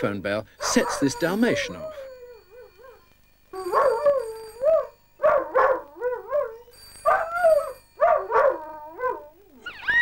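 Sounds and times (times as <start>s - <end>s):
dog howling: 0.6s - 10.0s.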